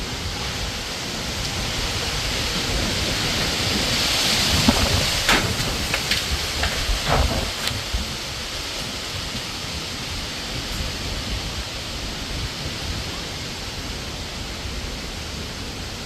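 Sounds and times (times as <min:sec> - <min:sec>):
strong wind blowing: 0:00.0 - 0:16.0
wind buffeting microphone: 0:00.0 - 0:16.0.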